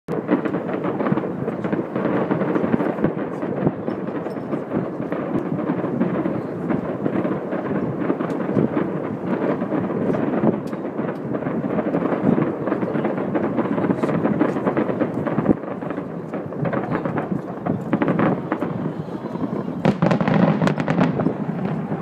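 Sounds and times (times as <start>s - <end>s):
fireworks bursting and crackling: 0.1s - 22.0s.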